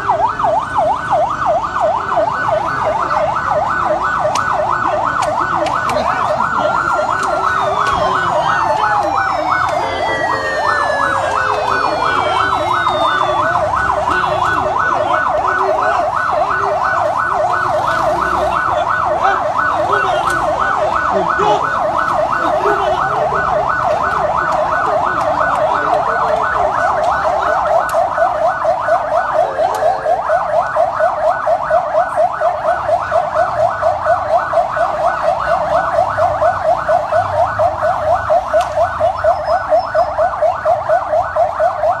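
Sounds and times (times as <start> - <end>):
police siren yelping: 0.0 - 42.0.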